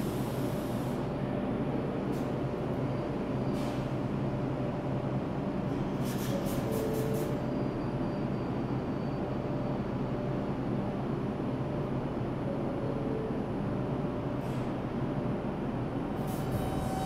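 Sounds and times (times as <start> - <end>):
subway train humming: 0.0 - 17.0.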